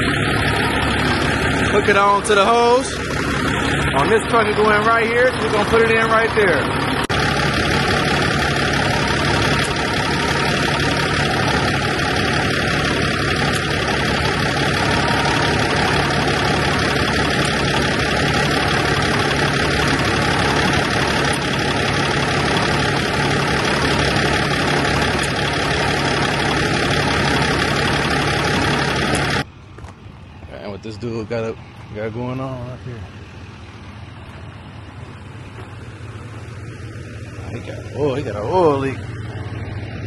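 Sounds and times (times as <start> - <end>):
air conditioning rushing: 0.0 - 40.0
diesel engine idling: 0.0 - 40.0.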